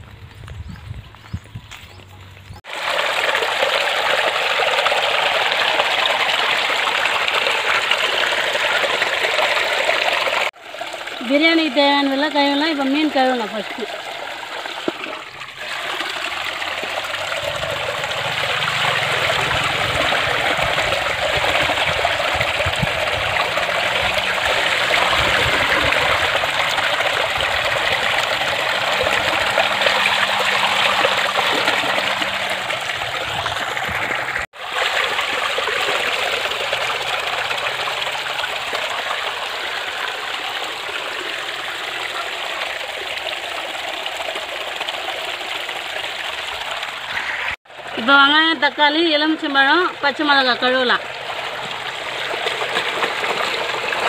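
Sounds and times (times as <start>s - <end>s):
water pouring from pipe: 2.6s - 54.0s.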